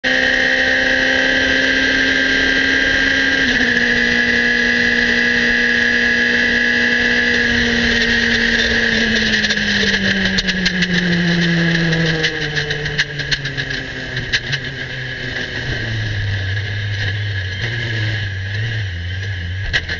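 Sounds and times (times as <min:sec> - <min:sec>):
race car engine at high revs: 0:00.0 - 0:19.9.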